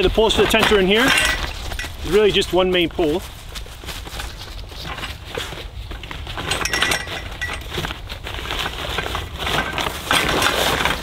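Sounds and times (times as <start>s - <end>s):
metal tent poles clinking: 0.0s - 3.2s, 4.0s - 11.0s
fabric bag rustling: 0.0s - 11.0s.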